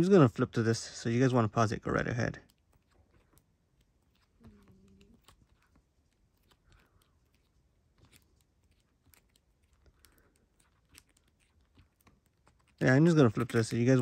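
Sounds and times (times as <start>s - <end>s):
book pages turning: 1.9s - 14.0s.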